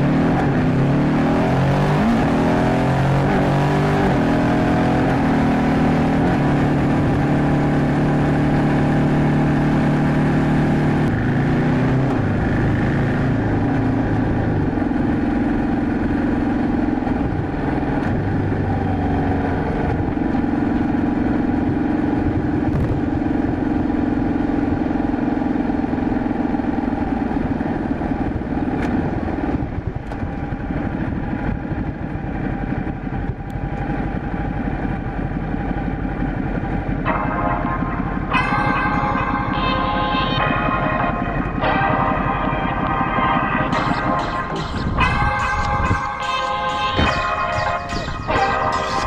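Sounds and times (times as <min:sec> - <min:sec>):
motorcycle engine cruising: 0:00.0 - 0:49.0.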